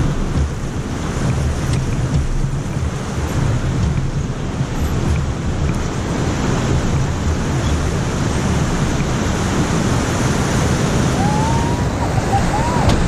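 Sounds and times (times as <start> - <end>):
whitewater roaring: 0.0 - 13.0.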